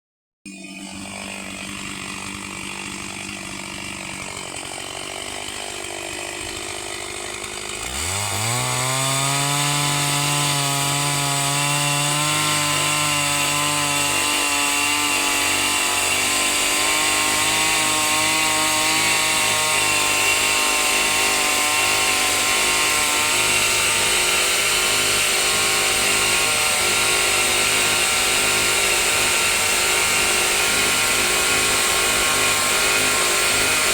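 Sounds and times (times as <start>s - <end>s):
chainsaw engine revving: 0.5s - 33.9s.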